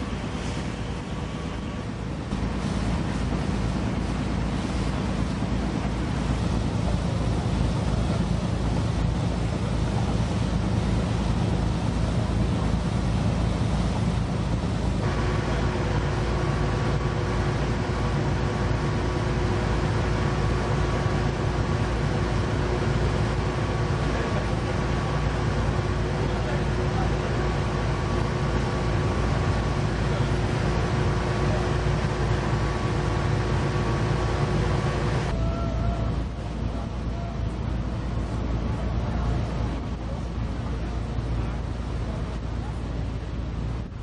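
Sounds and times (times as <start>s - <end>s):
boat engine drone: 0.0s - 44.0s.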